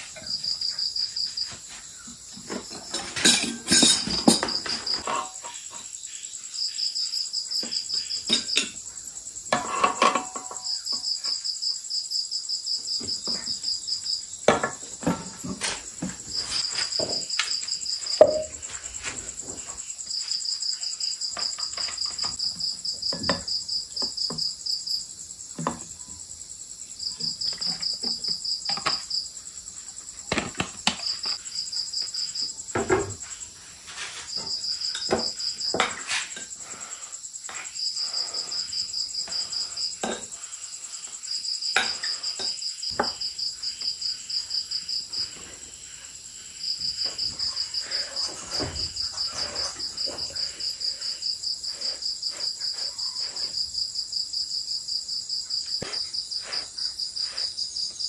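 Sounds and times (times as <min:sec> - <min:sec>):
steady high insect trill: 0:00.0 - 0:14.5, 0:15.2 - 0:30.3, 0:30.9 - 0:58.0.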